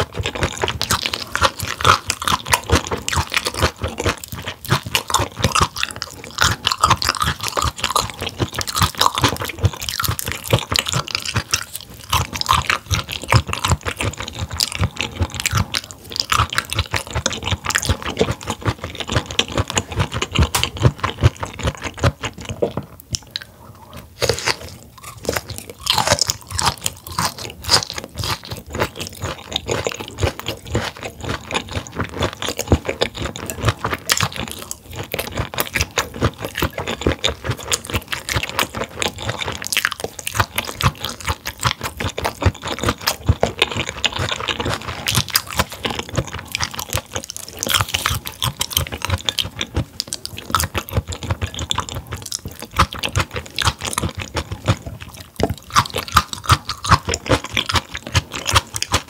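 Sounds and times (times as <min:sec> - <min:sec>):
crunching chewing mouth clicks: 0:00.0 - 0:59.0.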